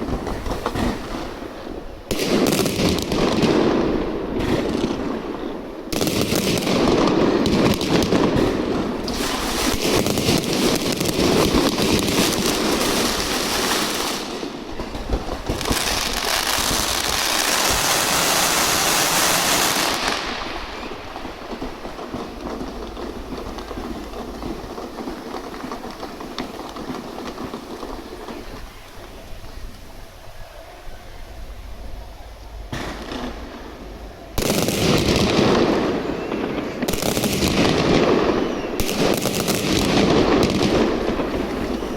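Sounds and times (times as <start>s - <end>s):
fireworks crackling and banging: 0.0s - 30.4s, 31.9s - 41.9s.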